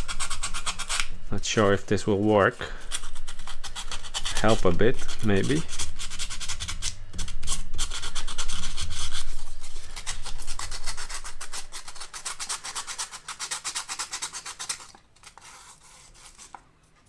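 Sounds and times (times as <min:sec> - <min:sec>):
sandpaper rubbing on metal: 0:00.0 - 0:16.6.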